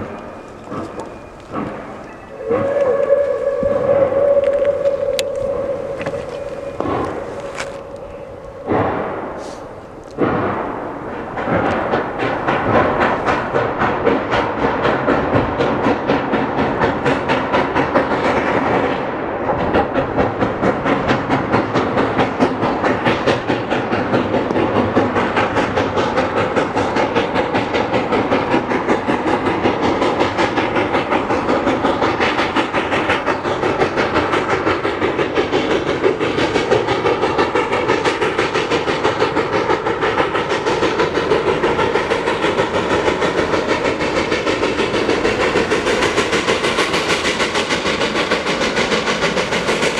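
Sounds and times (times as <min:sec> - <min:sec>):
steam train running: 0:00.0 - 0:49.9.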